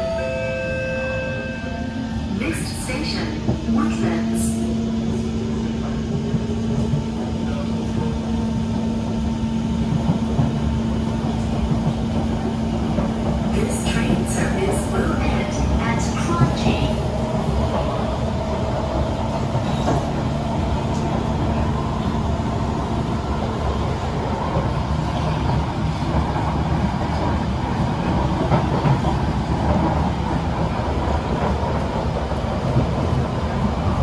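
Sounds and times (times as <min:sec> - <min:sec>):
train wheels rumbling on rail: 0:01.8 - 0:34.0.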